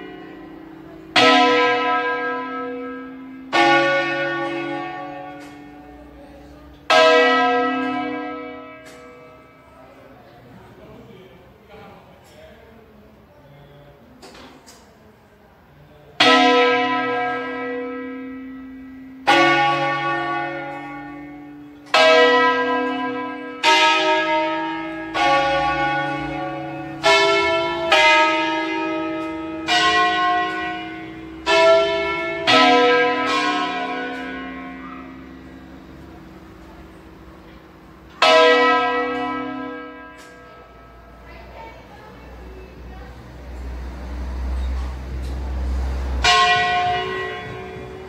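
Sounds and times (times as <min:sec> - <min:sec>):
church bells ringing: 0:00.0 - 0:10.2, 0:16.2 - 0:48.0.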